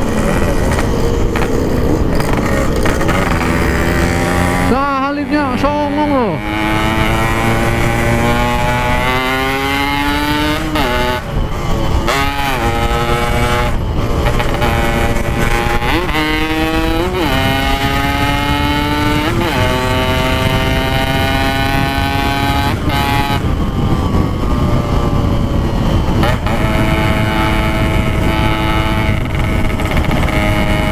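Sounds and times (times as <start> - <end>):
two-stroke motorcycle engine: 0.0 - 30.9
wind and road noise: 0.0 - 30.9.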